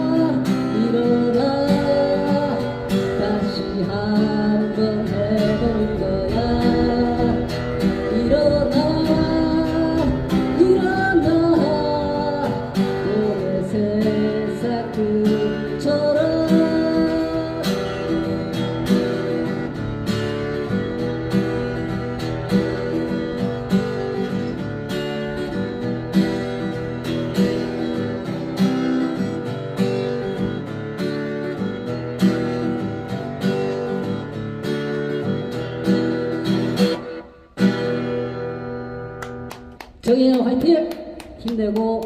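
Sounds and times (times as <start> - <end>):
acoustic guitar strumming chords: 0.0 - 42.0.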